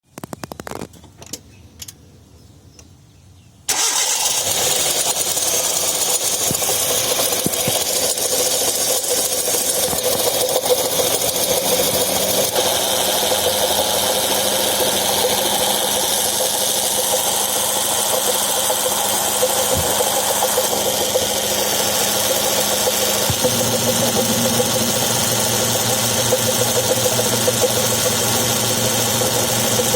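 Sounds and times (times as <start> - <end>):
car engine starting and running: 3.7 - 29.9
harsh compressor abrasion noise: 3.7 - 29.9.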